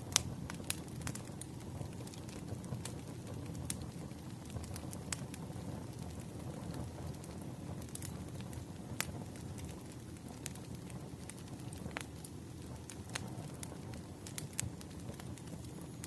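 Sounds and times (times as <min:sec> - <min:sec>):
low rumble of flame: 0:00.0 - 0:16.0
wood fire crackling and popping: 0:00.0 - 0:16.0.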